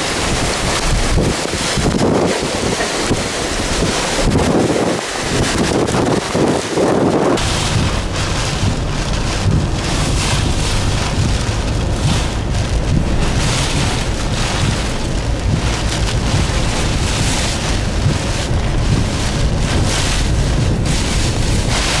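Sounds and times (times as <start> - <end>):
wind buffeting the microphone: 0.0 - 22.0
wind roaring in gusts: 0.0 - 22.0.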